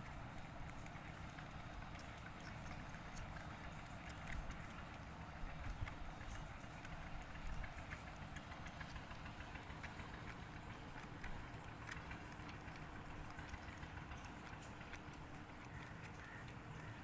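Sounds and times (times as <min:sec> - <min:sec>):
kitten lapping milk: 0:00.0 - 0:17.0
low steady rumble: 0:00.0 - 0:17.0.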